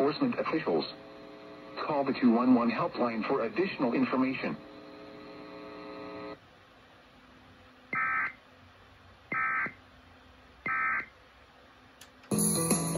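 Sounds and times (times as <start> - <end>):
steady electronic hum: 0.0 - 12.9.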